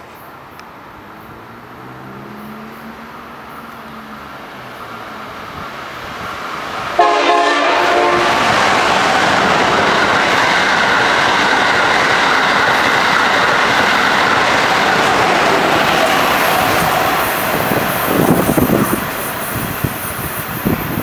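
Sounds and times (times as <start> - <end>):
train rushing past: 0.0 - 21.0.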